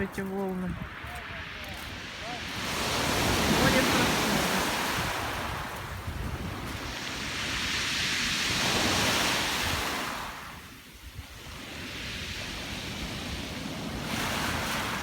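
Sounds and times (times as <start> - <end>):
surf breaking on shore: 0.0 - 10.8, 11.4 - 15.0
wind rumbling on microphone: 0.0 - 15.0.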